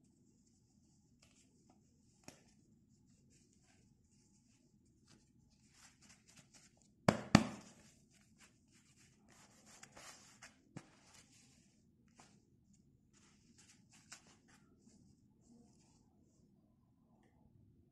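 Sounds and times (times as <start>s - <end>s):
fabric gloves rustling: 0.0s - 16.6s.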